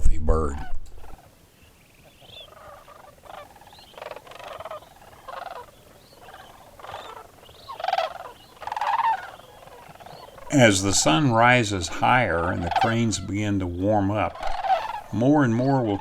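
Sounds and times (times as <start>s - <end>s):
cranes calling: 0.0s - 16.0s.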